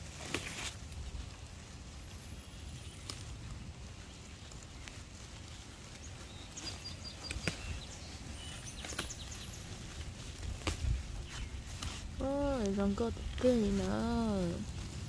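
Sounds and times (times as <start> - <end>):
leaves rustling: 0.0 - 15.0
wind rumble on microphone: 0.0 - 15.0.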